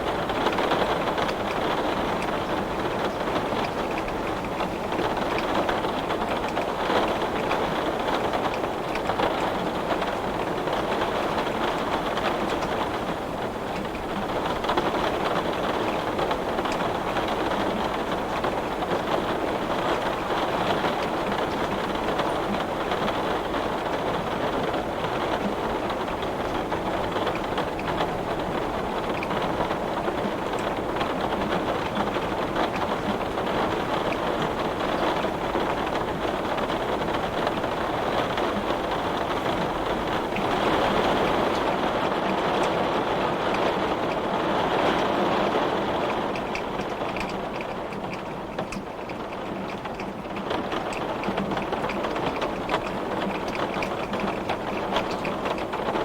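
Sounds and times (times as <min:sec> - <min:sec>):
heavy rain on glass: 0:00.0 - 0:56.0.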